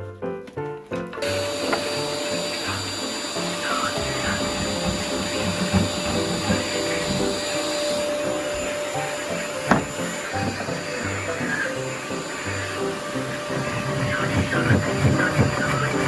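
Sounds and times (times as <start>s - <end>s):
background music: 0.0s - 16.0s
power tool motor whine: 1.2s - 16.0s.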